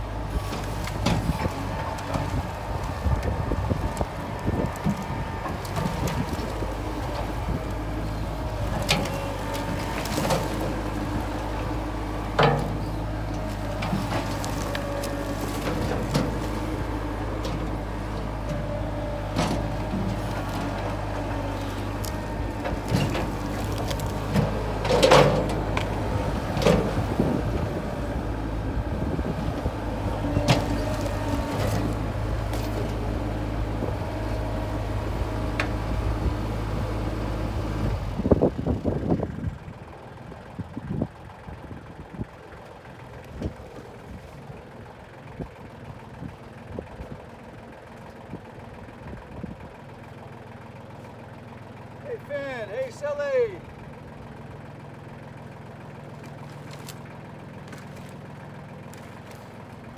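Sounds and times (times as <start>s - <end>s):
loader knocks and clunks: 0.0s - 59.9s
tractor engine running: 0.0s - 59.9s.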